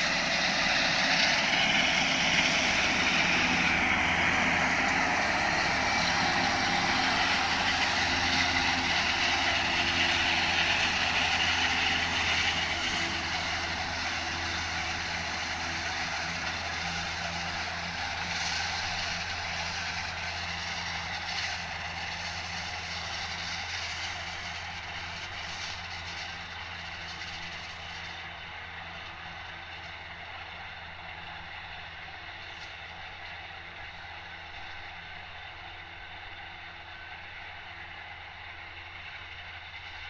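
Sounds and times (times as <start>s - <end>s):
tractor engine hum: 0.0s - 40.0s.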